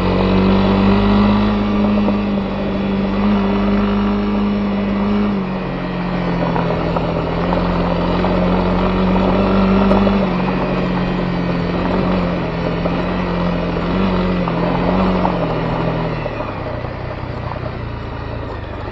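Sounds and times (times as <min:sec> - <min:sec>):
motorcycle engine cruising: 0:00.0 - 0:18.9
tyres on gravel road: 0:00.0 - 0:18.9.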